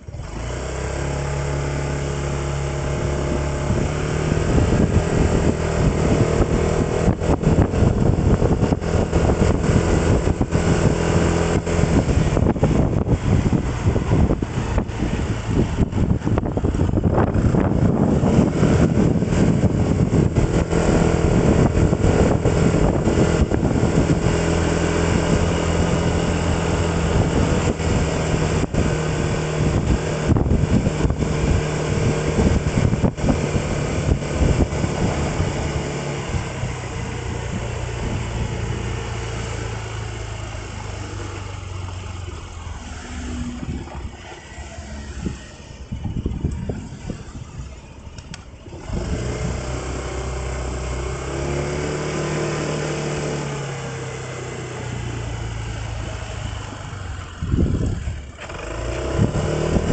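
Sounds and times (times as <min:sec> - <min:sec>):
road noise: 0:00.0 - 0:59.9
vehicle engine: 0:00.0 - 0:59.9.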